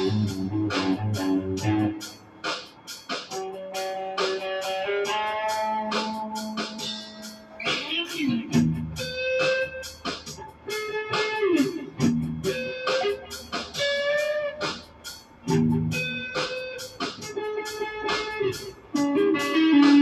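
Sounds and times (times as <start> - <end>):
guitar plucked notes: 0.0 - 2.1, 3.6 - 14.8, 15.4 - 20.0
sharp strumming strokes: 0.0 - 20.0.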